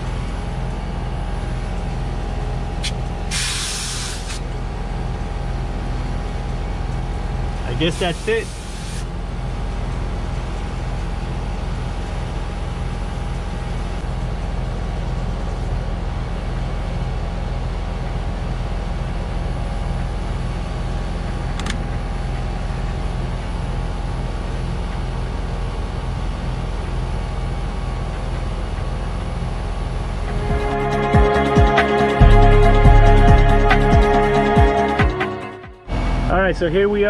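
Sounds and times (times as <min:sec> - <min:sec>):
condenser fan rushing: 0:00.0 - 0:31.1
heat pump compressor hum: 0:00.0 - 0:34.7.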